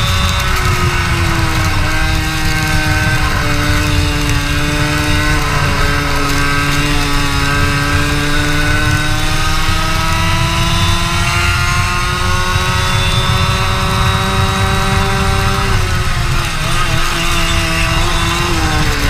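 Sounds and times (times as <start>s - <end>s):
kart engine revving: 0.0s - 19.0s.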